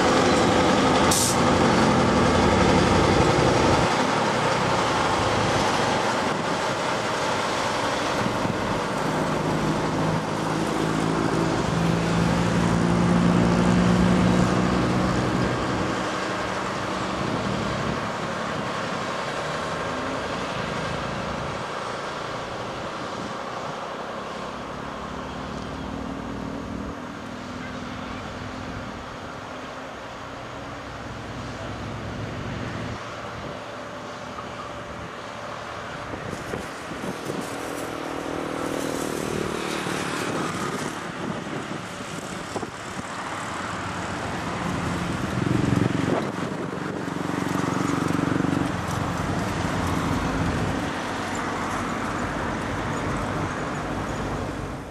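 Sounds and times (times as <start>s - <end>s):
diesel railcar engines running: 0.0s - 54.9s.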